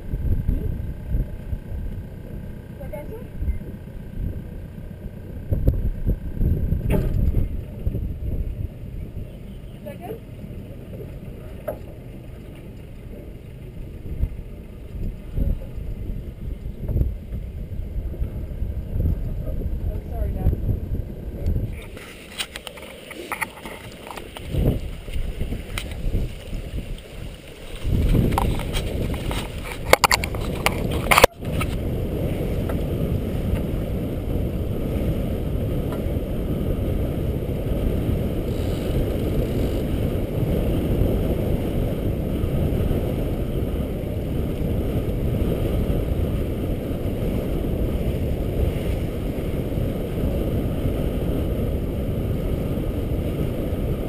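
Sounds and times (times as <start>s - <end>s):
wind buffeting the microphone: 0.0s - 54.0s.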